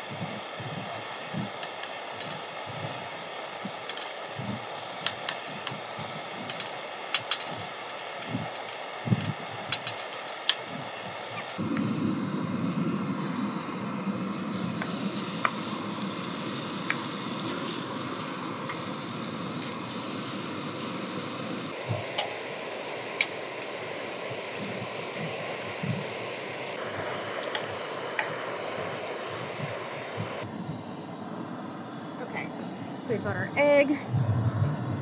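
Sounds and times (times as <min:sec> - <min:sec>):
bacon sizzling in frying pan: 0:00.0 - 0:11.6, 0:13.5 - 0:30.5.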